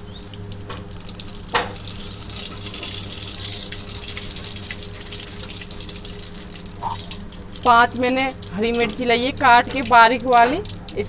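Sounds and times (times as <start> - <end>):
seeds sizzling in hot oil: 0.0 - 11.0.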